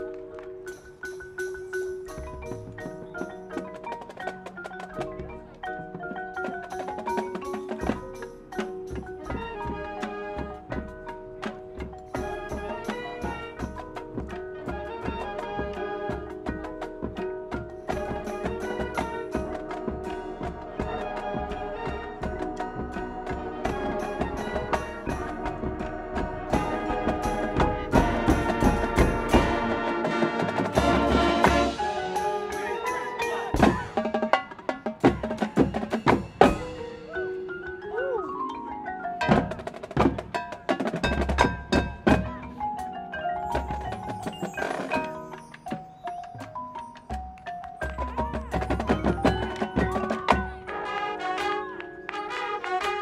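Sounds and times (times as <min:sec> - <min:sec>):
mallet keyboards ringing notes: 0:00.0 - 0:52.9
marching band playing: 0:00.0 - 0:53.0.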